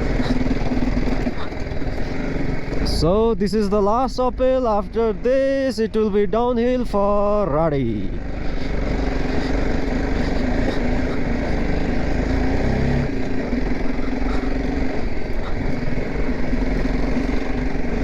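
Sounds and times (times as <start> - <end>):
motorcycle engine climbing hill: 0.0 - 18.0
road and wind noise: 0.0 - 18.0.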